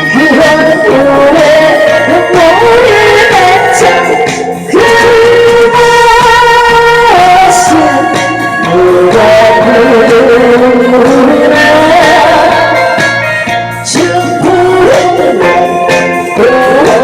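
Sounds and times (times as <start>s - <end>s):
backing track with steady beat: 0.0s - 17.0s
woman singing: 0.0s - 17.0s.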